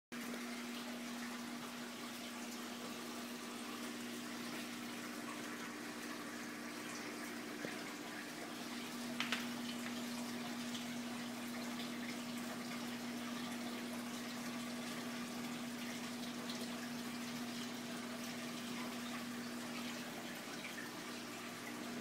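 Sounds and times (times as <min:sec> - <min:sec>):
aquarium water running: 0:00.1 - 0:22.0
pump humming: 0:00.1 - 0:22.0.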